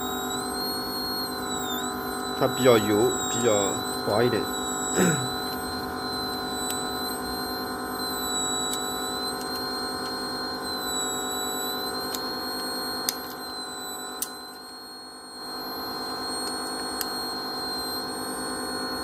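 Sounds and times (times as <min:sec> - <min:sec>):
electrical hum: 0:00.0 - 0:19.0
thin high whine: 0:00.0 - 0:19.0.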